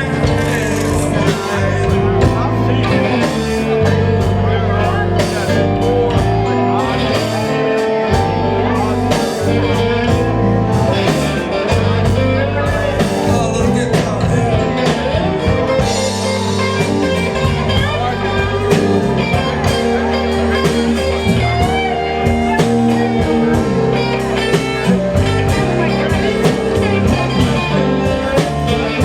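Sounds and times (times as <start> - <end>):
electric guitar: 0.0 - 29.0
live blues band playing: 0.0 - 29.0.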